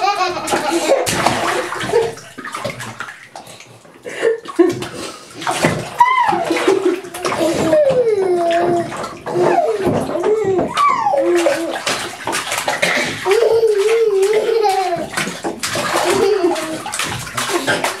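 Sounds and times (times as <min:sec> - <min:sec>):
bathwater splashing: 0:00.0 - 0:18.0.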